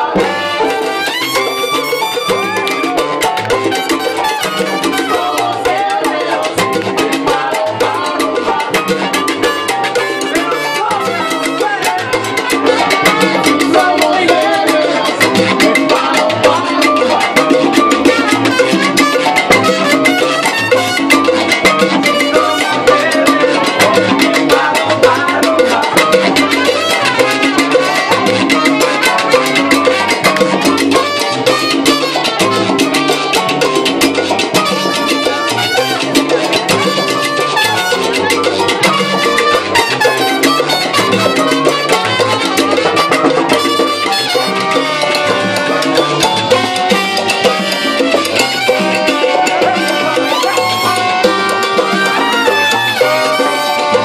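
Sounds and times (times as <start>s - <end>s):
live salsa band playing: 0.0s - 54.0s.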